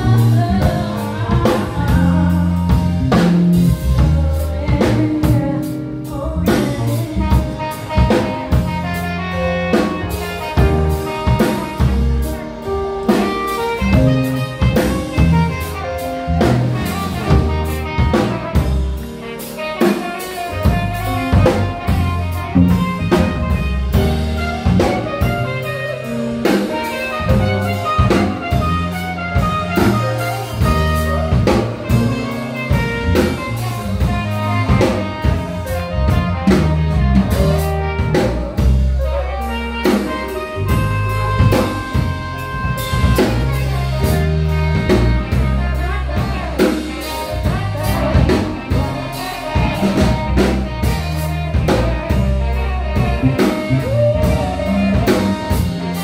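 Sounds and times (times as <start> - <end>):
drum kit beat: 0.0 - 56.0
electric bass guitar: 0.0 - 56.0
electric guitar: 0.0 - 56.0.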